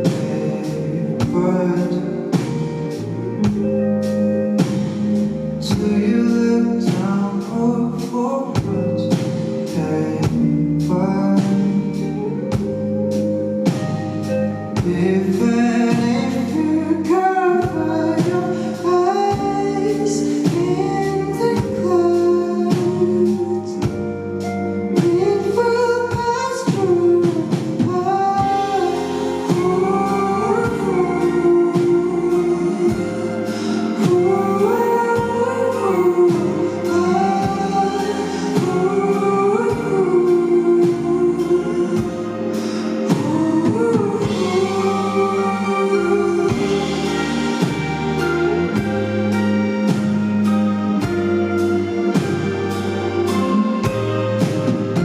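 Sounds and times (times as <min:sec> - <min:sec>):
bass: 0:00.0 - 0:55.0
drum kit beat: 0:00.0 - 0:55.0
person singing: 0:00.0 - 0:55.0.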